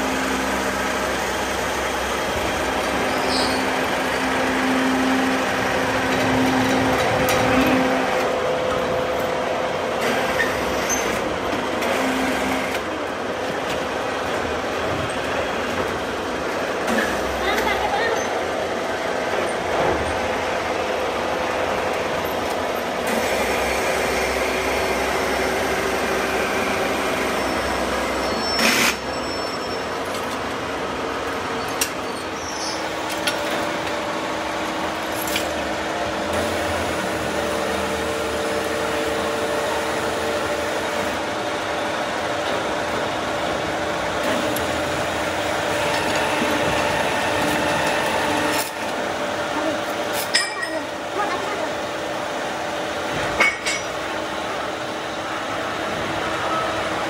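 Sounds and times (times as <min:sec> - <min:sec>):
workshop machinery running: 0:00.0 - 0:57.0.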